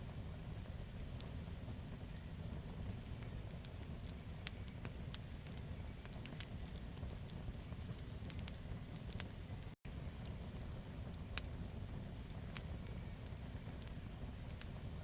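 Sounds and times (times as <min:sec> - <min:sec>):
campfire crackling: 0:00.0 - 0:15.0
low fire rumble: 0:00.0 - 0:15.0.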